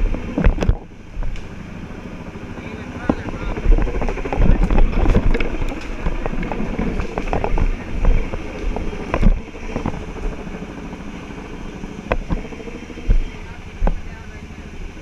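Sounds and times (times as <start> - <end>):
helicopter engine and rotor: 0.0 - 15.0
wind buffeting microphone: 0.0 - 15.0.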